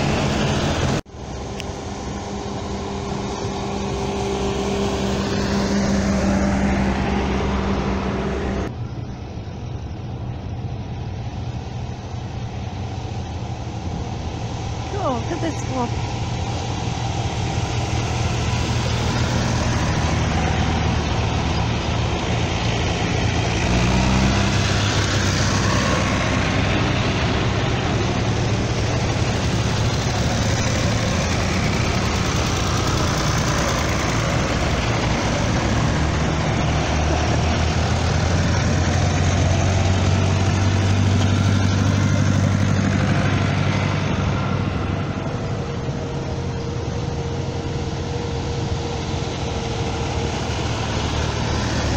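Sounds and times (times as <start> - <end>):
tractors driving past: 0.0 - 51.9.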